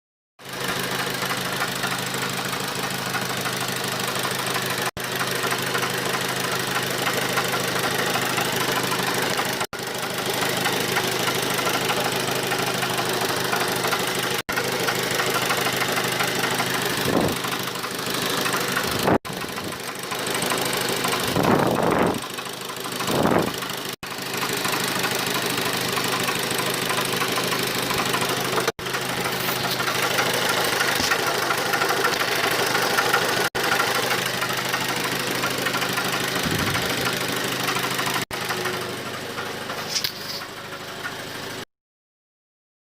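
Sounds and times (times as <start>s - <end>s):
engine idling: 0.4s - 41.7s
engine knocking noise: 0.4s - 41.7s.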